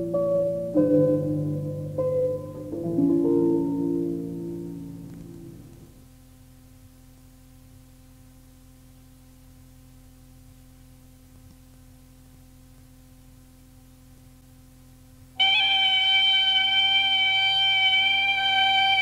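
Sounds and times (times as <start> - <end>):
cassette tape hiss: 0.0 - 19.0
steady low hum: 0.0 - 19.0.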